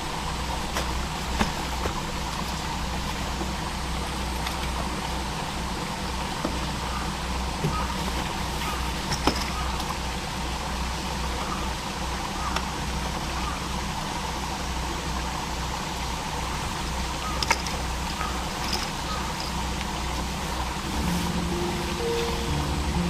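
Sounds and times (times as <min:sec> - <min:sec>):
low rumble and hiss: 0:00.0 - 0:23.0.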